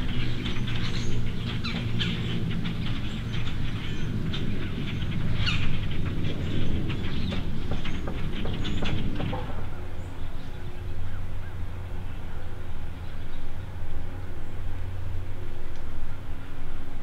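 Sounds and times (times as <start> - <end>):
birds chirping: 0.0 - 17.0
low hum: 0.0 - 17.0.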